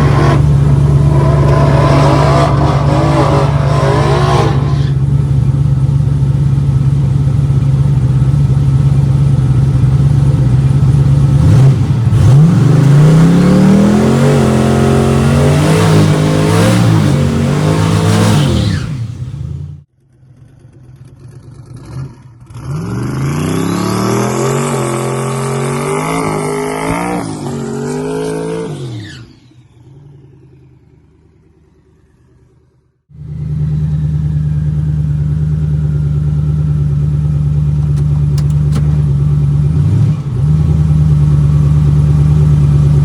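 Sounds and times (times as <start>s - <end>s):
drag car engine accelerating: 0.0s - 32.4s, 33.2s - 43.0s.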